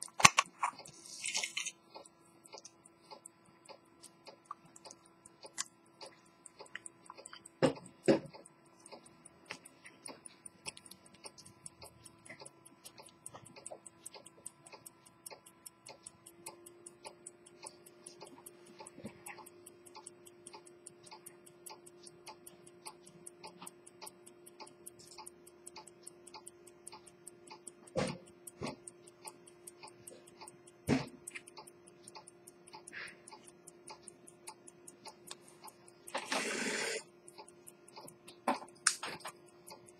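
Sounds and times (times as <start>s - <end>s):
pocket watch ticking fast: 0.0s - 39.9s.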